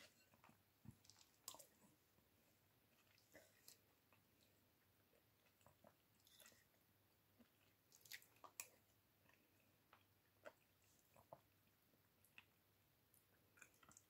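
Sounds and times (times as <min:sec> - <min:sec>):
chewing and wet mouth sounds: 0:00.0 - 0:14.0.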